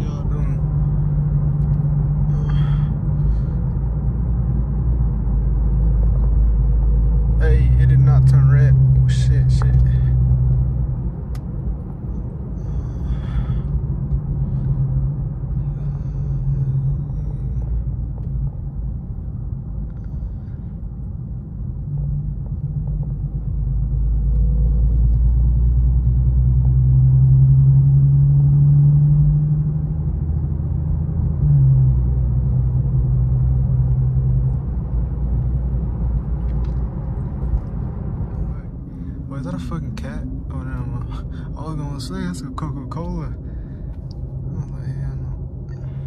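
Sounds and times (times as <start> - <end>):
car engine while driving: 0.0 - 46.0.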